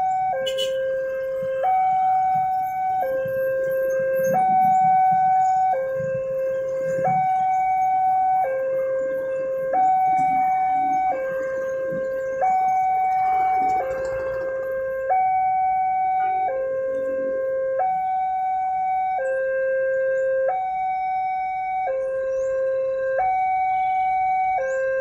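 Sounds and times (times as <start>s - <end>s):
two-tone crossing alarm: 0.0s - 25.0s.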